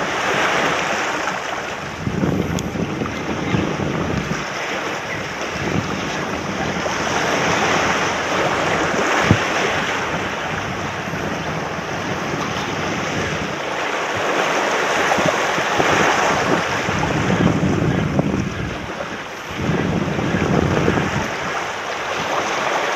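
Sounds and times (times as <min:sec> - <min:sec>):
waves washing over rocks: 0:00.0 - 0:22.9
wind buffeting microphone: 0:00.0 - 0:22.9.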